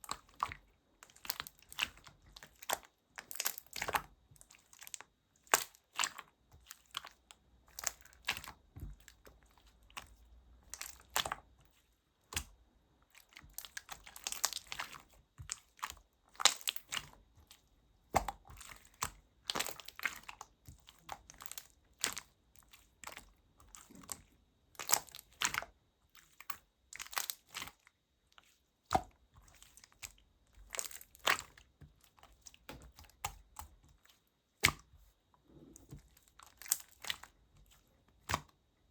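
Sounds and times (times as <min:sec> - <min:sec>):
slime squished by hand: 0:00.0 - 0:11.6, 0:12.2 - 0:27.8, 0:28.4 - 0:34.0, 0:34.6 - 0:38.5.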